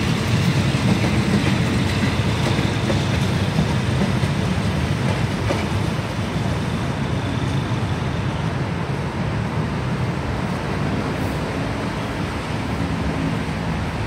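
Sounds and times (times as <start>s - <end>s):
road traffic noise: 0.0s - 14.0s
train rumbling away: 0.0s - 14.0s.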